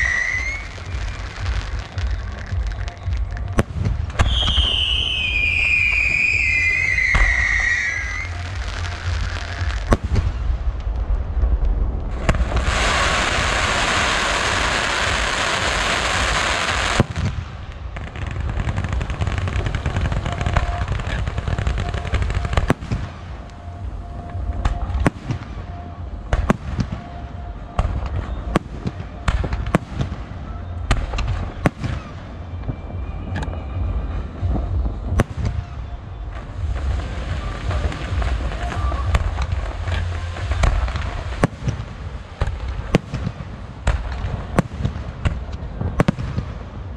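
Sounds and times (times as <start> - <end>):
firework bangs and pops: 0.0 - 23.5, 24.3 - 27.2, 27.8 - 46.9
firework crackling: 0.0 - 46.9
hissing firework fountain: 0.0 - 46.9.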